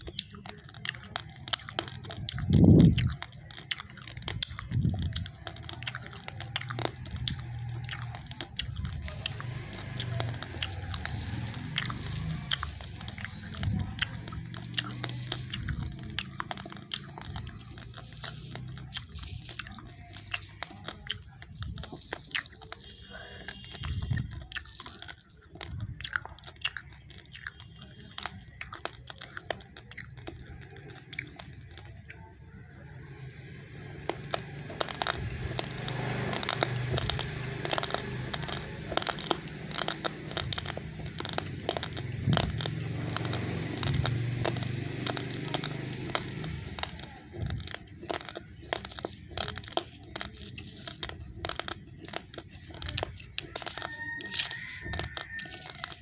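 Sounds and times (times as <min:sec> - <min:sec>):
raw rice being chewed: 0:00.0 - 0:56.0.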